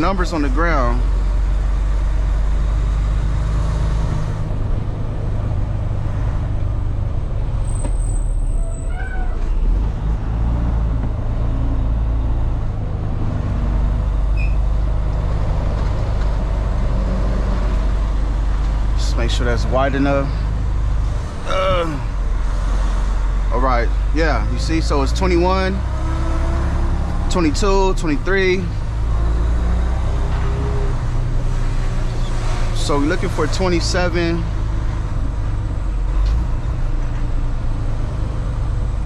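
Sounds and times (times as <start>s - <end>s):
truck diesel engine running: 0.0s - 8.7s, 9.4s - 39.0s.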